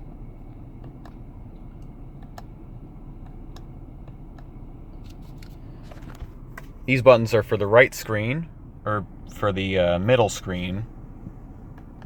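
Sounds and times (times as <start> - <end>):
low car cabin hum: 0.0 - 12.0.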